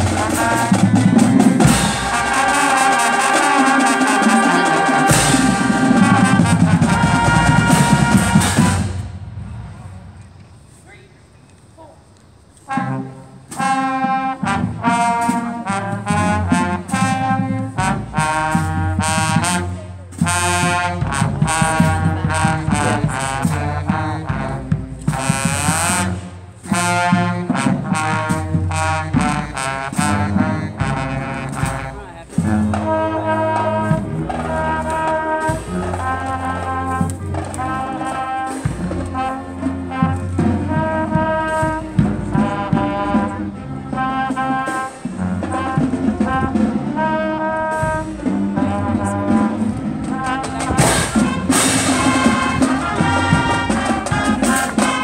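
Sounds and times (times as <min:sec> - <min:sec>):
drums: 0:00.0 - 0:10.6, 0:12.7 - 0:55.0
marching band brass: 0:00.0 - 0:11.2, 0:12.6 - 0:55.0.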